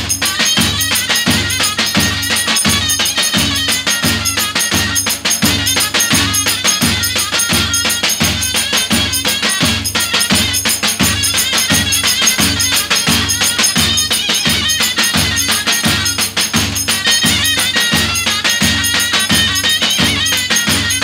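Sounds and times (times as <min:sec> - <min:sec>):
wavering reed pipe melody: 0:00.0 - 0:21.0.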